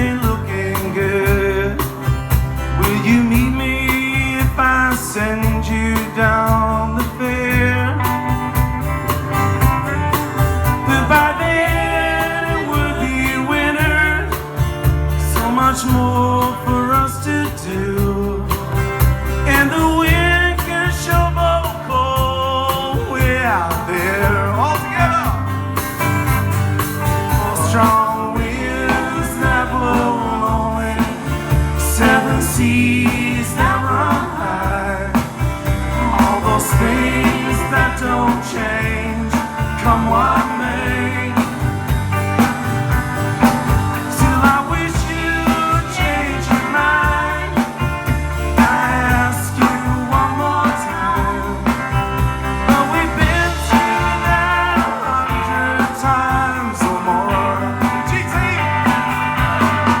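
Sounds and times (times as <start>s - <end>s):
bass guitar: 0.0s - 60.0s
guitars: 0.0s - 60.0s
steady drum beat: 0.0s - 60.0s.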